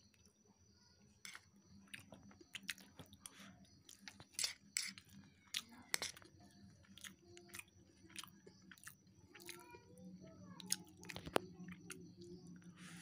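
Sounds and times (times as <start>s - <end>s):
person chewing noodles: 1.3s - 9.6s, 10.6s - 13.0s.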